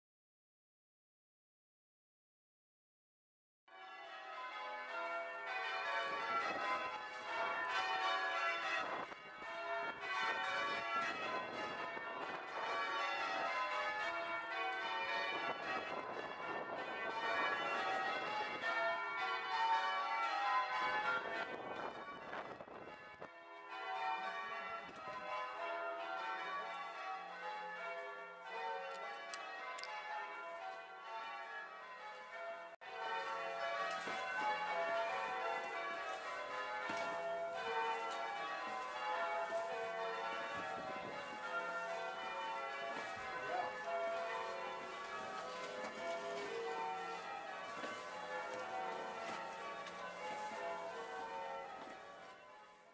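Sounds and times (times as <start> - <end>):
church bells pealing: 3.7 - 52.9.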